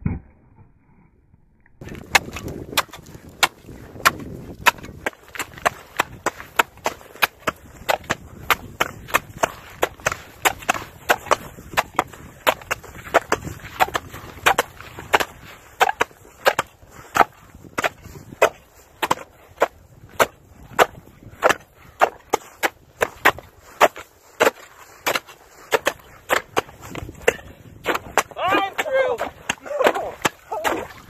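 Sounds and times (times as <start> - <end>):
metal tools chopping ice: 1.8 - 31.0.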